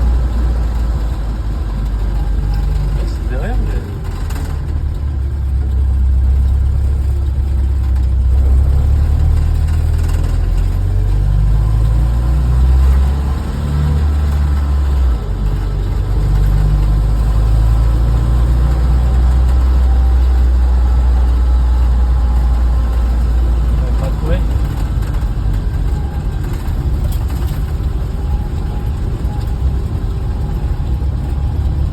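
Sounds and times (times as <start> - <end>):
car engine rumbling: 0.0 - 31.9.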